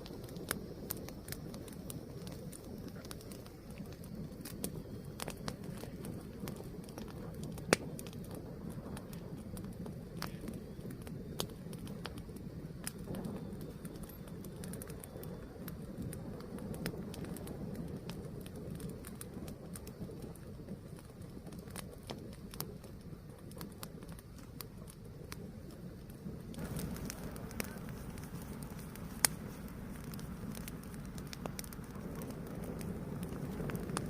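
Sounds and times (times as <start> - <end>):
fire burning with crackles: 0.0 - 34.0.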